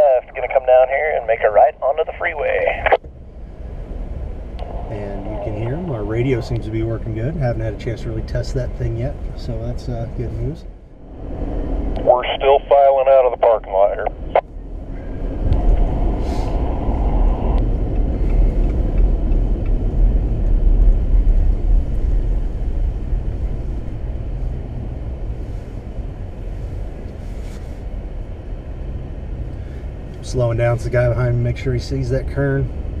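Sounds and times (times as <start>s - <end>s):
truck engine and road rumble: 0.0s - 33.0s.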